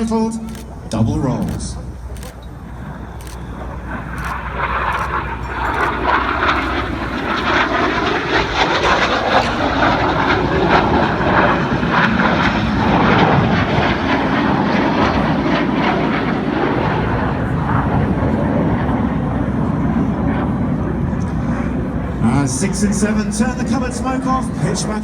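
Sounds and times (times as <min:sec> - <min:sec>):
jet engines passing: 0:00.0 - 0:25.0.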